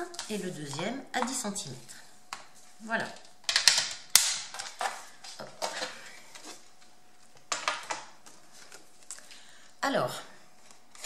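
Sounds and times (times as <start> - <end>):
paper crackling and tapping: 0.0 - 9.4.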